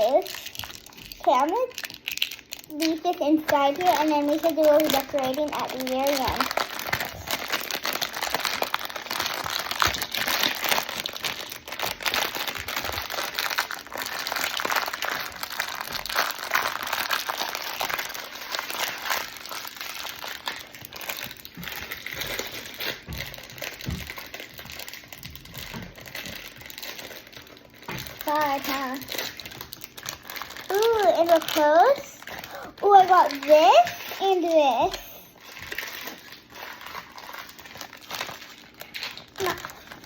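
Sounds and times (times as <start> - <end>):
plastic packaging crinkling: 0.0 - 40.0.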